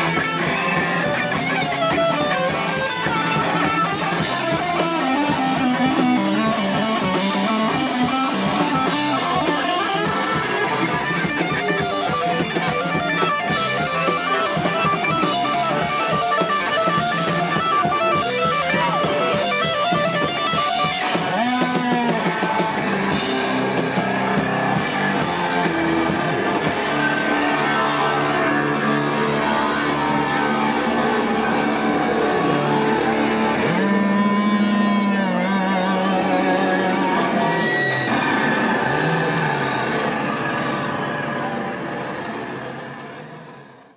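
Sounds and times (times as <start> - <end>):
drum kit: 0.0 - 42.4
distorted electric guitars: 0.0 - 43.9.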